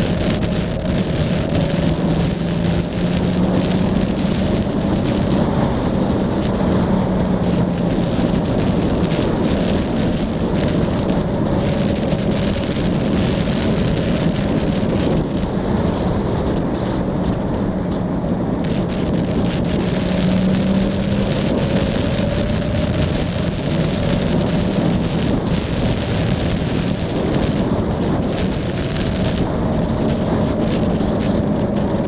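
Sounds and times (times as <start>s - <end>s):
motorcycle engine hum: 0.0s - 32.0s
wind rush on microphone: 0.0s - 32.0s.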